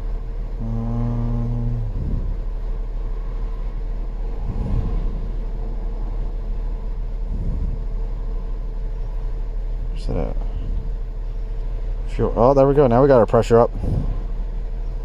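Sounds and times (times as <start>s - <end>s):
car engine rumbling: 0.0s - 15.0s
steady pitched hum: 0.0s - 15.0s.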